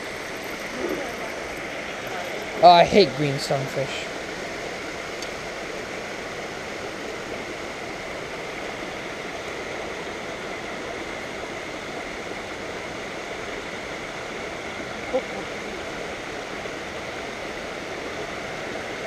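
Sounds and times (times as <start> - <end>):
water rushing over dam: 0.0 - 19.0.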